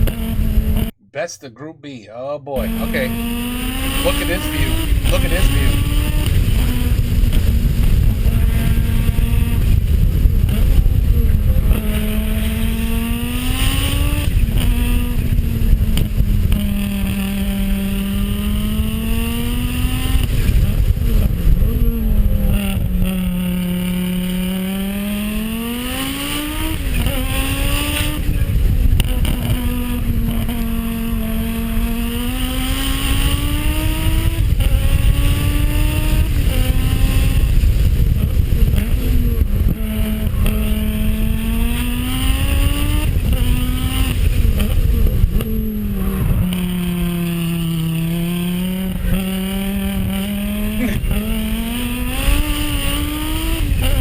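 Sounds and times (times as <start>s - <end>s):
rally car engine: 0.0s - 1.3s, 2.5s - 54.0s.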